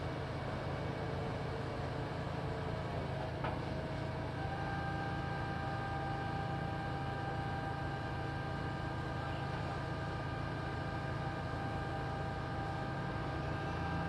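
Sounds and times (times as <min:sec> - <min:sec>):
construction machine engine humming: 0:00.0 - 0:14.0.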